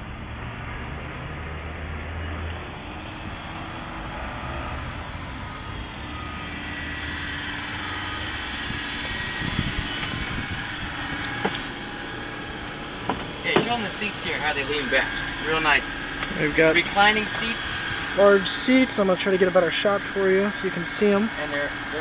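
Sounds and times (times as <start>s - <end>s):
small truck engine running: 0.0s - 22.0s.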